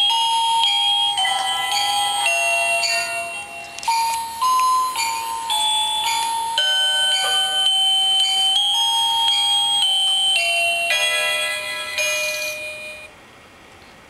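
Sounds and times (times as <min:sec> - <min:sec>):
electronic chime-like tune: 0:01.0 - 0:13.1.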